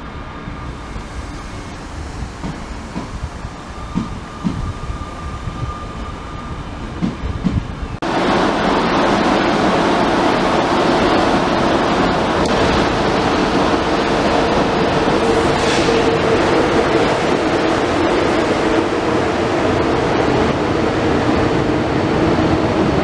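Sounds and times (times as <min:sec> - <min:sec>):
high-speed train rushing: 0:00.0 - 0:23.0
train rolling with low rumble: 0:00.0 - 0:23.0.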